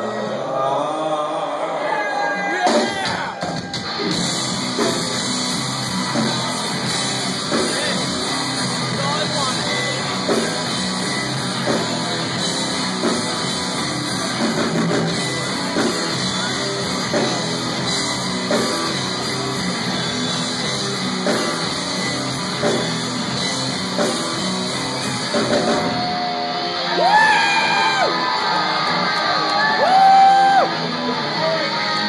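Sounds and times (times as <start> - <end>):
drum kit: 2.6 - 28.5
distorted electric guitar: 2.7 - 32.0.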